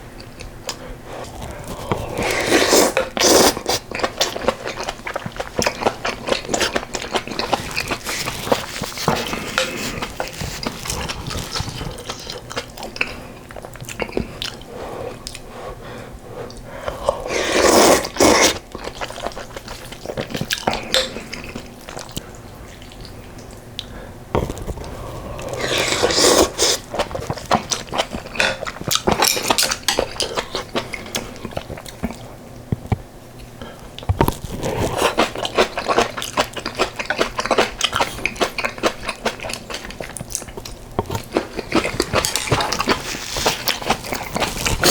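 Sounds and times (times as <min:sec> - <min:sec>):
wet chewing: 0:00.2 - 0:15.5, 0:16.4 - 0:44.9
slurping soup: 0:00.7 - 0:15.7, 0:16.4 - 0:23.1, 0:23.8 - 0:32.2, 0:34.3 - 0:44.9.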